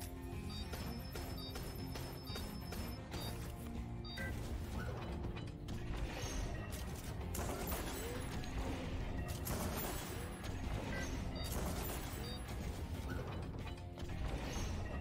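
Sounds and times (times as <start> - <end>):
game soundtrack music: 0.0 - 15.0.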